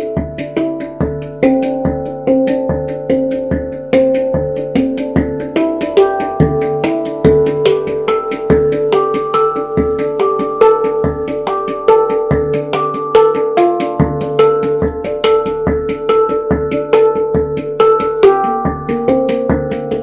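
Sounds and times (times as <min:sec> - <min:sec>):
deep handpan notes: 0:00.0 - 0:20.0
handpan melody: 0:00.0 - 0:20.0.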